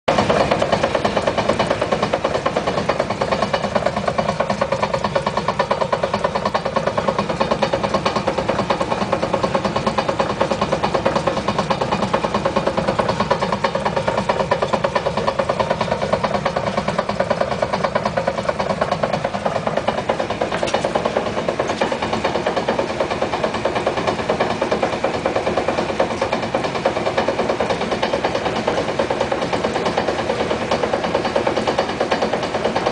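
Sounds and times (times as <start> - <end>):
car engine idling: 0.1 - 32.9
rhythmic driveline knock: 0.1 - 32.9.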